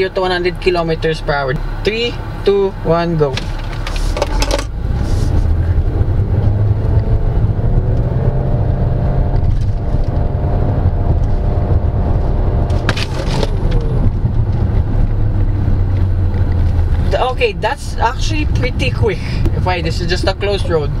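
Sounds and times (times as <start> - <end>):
car powertrain and tyre drone: 0.0 - 21.0.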